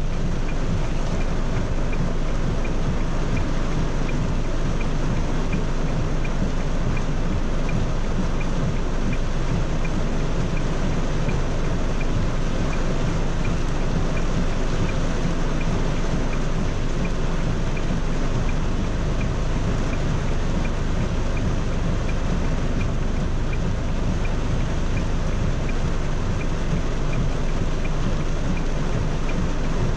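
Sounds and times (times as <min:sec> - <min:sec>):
faint regular ticking: 0:00.0 - 0:29.9
heavy rain on a car: 0:00.0 - 0:29.9.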